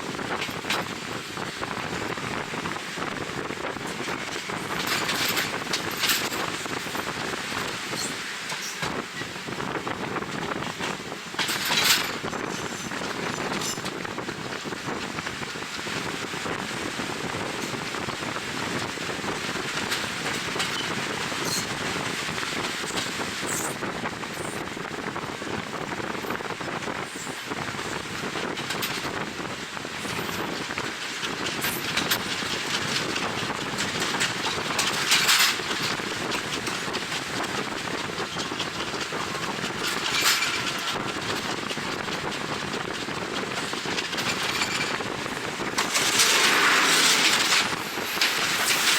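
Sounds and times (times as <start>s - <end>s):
train wheels on rails: 0.0s - 48.9s
wind buffeting microphone: 0.0s - 48.9s.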